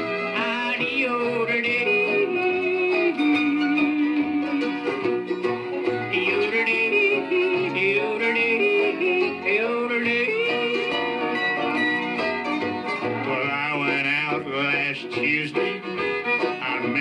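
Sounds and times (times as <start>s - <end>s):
string band accompaniment: 0.0s - 17.0s
wordless yodel: 0.0s - 17.0s.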